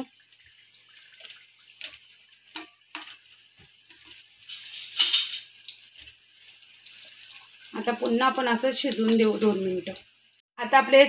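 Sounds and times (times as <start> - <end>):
food sizzling in hot oil: 0.0 - 10.6.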